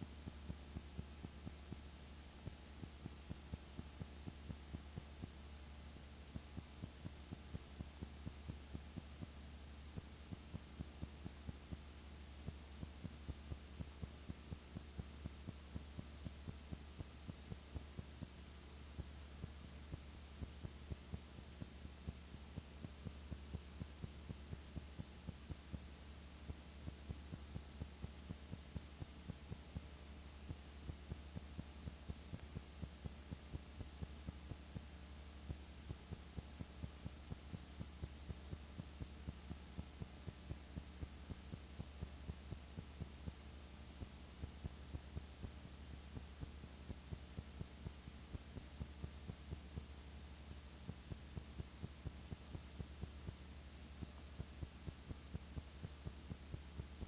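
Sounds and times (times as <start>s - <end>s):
faint electrical hum: 0.0s - 57.0s.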